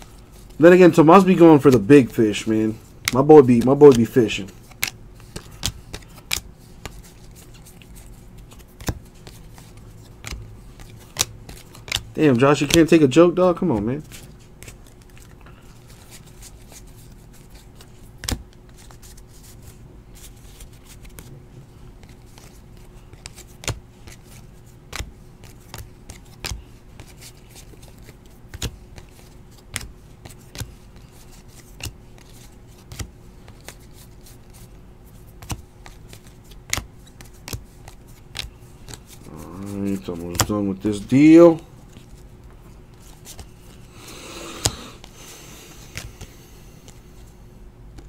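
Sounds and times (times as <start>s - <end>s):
faint steady hum: 0.0s - 48.0s
trading cards snapping: 1.2s - 13.0s, 14.0s - 19.5s, 22.0s - 40.6s, 42.9s - 47.0s.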